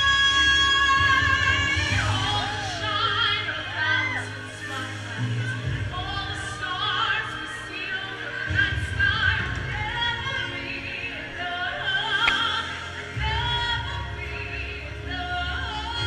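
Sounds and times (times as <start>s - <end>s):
recorded backing music: 0.0s - 16.0s
woman singing into microphone: 0.0s - 16.0s.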